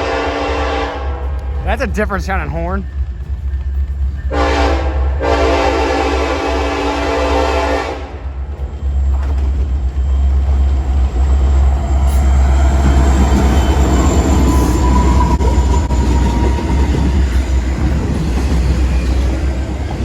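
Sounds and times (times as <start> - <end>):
diesel locomotive engine rumble: 0.0 - 20.0
rolling rail noise: 0.0 - 20.0.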